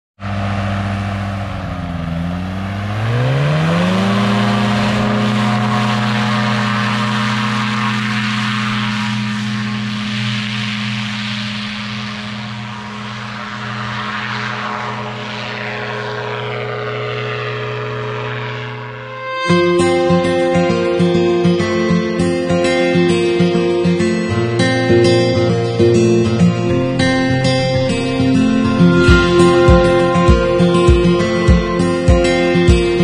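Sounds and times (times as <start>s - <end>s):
powered parachute engine and propeller: 0.2s - 33.0s.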